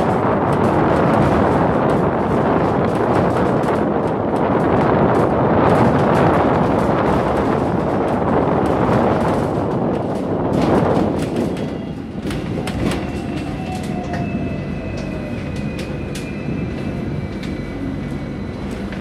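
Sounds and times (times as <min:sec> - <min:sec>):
clicks and clanks from rails: 0:00.0 - 0:17.6
tram brake whine: 0:00.0 - 0:19.0
tram running on rails: 0:00.0 - 0:19.0
wind on microphone: 0:00.0 - 0:19.0.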